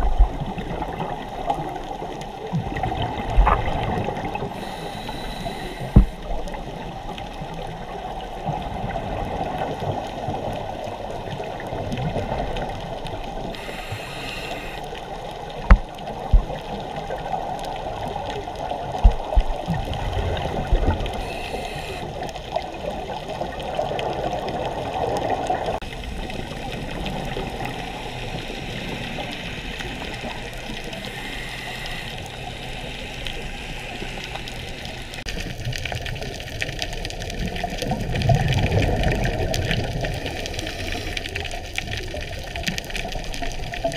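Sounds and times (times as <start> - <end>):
underwater bubbling: 0.0 - 43.9.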